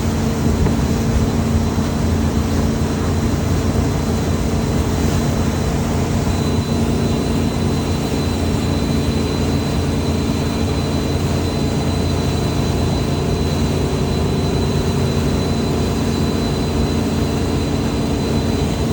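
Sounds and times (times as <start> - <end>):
engine droning with high whine: 0.0 - 18.9.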